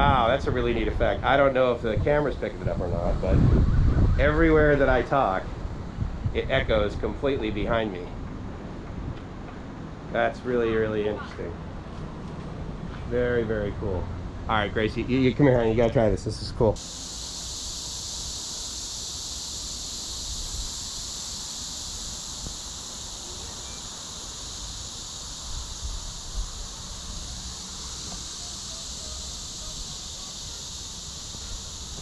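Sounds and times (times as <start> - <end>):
insects buzzing: 0.6 - 3.6, 4.2 - 12.8, 16.8 - 32.0.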